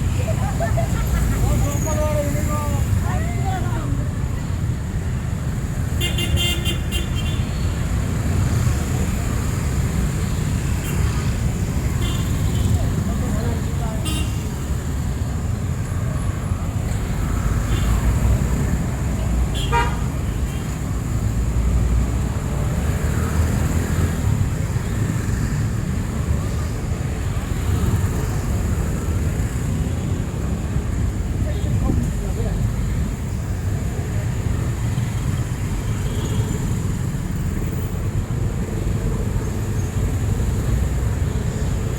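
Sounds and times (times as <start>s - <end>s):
street traffic rumbling: 0.0s - 41.9s.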